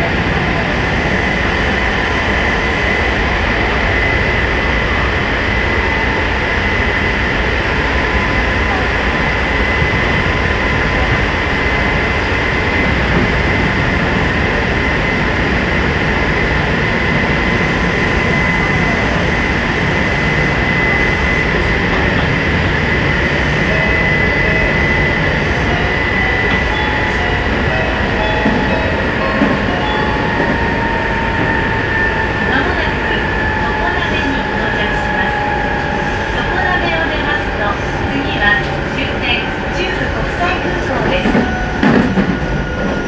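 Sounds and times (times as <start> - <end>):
high whine: 0.0 - 38.6
train wheels rumbling on track: 0.0 - 43.0.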